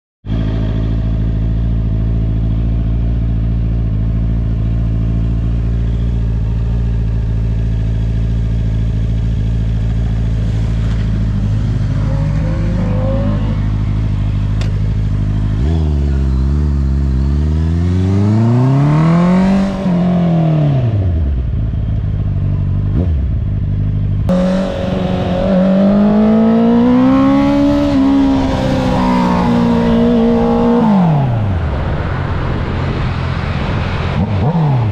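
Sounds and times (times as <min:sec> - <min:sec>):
motorcycle engine revving: 0:00.3 - 0:34.9.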